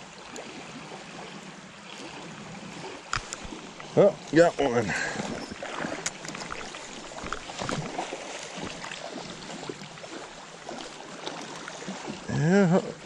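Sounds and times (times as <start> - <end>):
rushing water: 0.0 - 13.0
short splashes: 1.9 - 13.0.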